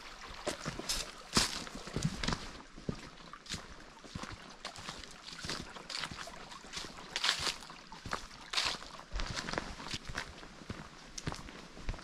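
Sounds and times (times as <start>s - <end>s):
footsteps through dry leaves: 0.5s - 2.5s, 3.5s - 11.5s.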